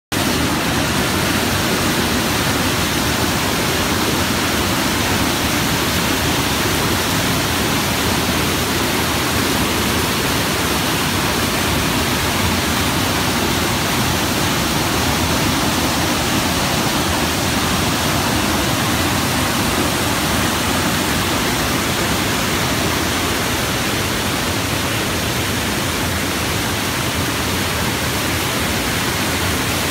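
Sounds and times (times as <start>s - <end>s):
water rushing over boulders: 0.1s - 29.9s.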